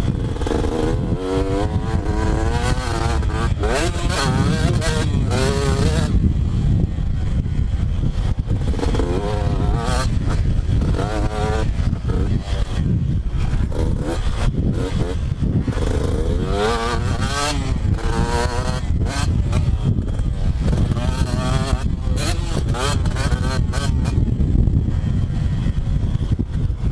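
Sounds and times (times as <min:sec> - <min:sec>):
two-stroke engine revving: 0:00.0 - 0:26.4.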